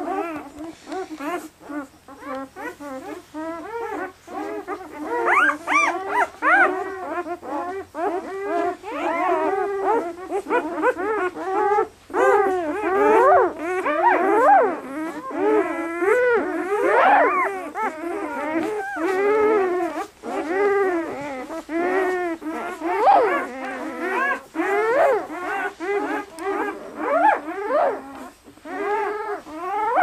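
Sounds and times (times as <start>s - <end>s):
puppies crying and whining: 0.0s - 30.0s.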